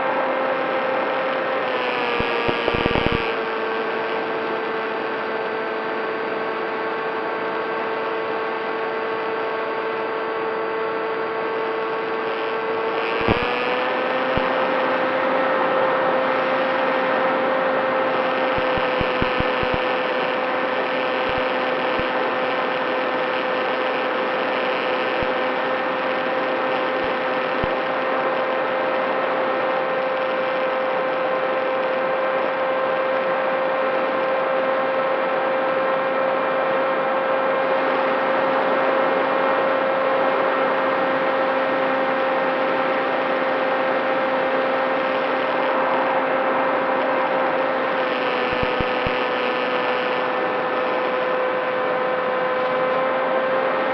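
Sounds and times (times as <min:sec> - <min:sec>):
model airplane propeller whine: 0:00.0 - 0:53.9.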